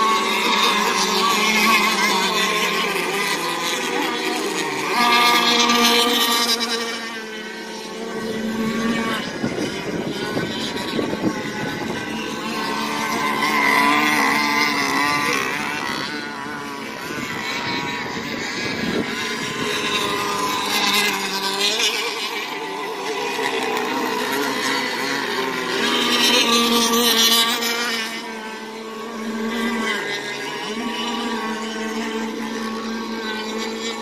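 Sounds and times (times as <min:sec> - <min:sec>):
model boat motors whining: 0:00.0 - 0:34.0.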